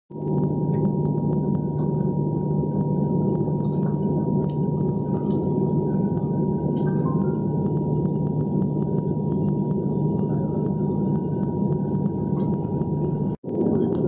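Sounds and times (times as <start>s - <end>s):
aircraft cabin drone: 0.1s - 14.0s
high-pitched whine: 0.1s - 14.0s.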